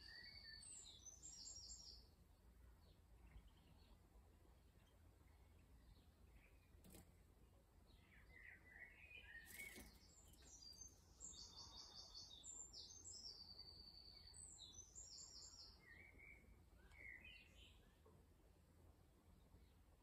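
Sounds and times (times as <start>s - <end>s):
songbirds singing faintly: 0.0s - 20.0s.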